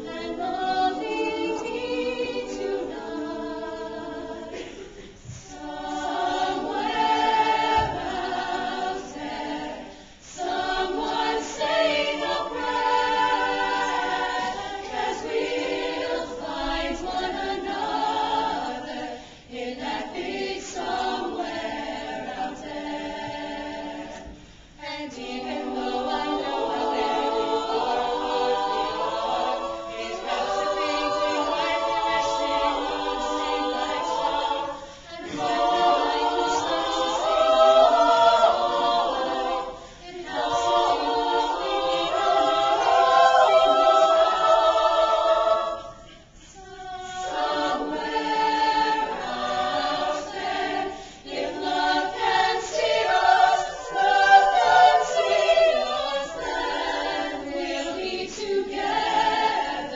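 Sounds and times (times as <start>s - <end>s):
women's choir singing: 0.0s - 59.9s.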